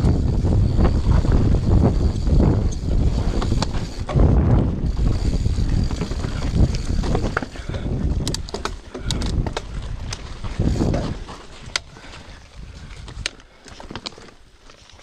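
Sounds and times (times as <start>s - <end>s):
wind buffeting microphone: 0.0s - 13.4s
bike rattling over bumps: 0.0s - 15.0s
bike tyres rolling over dirt: 0.0s - 15.0s.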